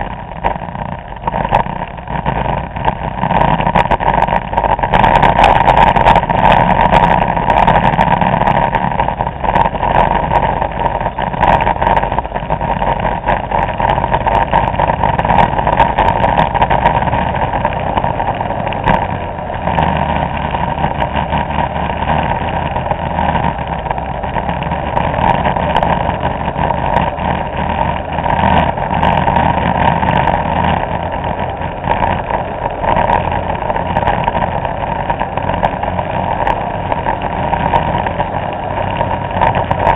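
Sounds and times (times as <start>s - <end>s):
scooter engines running: 0.0s - 39.9s
wind rushing over microphone: 0.0s - 39.9s.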